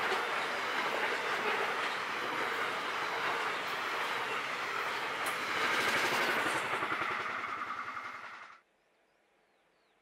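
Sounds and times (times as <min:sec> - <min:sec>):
freight train rushing past: 0:00.0 - 0:08.6
steel wheels clattering on rails: 0:00.0 - 0:08.6.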